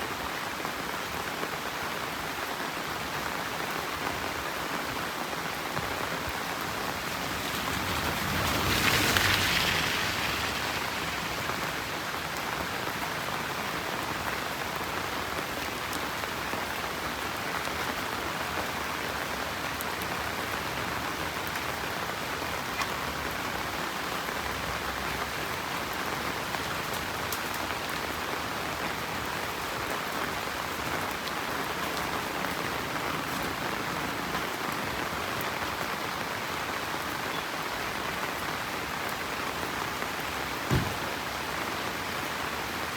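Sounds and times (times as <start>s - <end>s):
rain falling on a road: 0.0s - 42.9s.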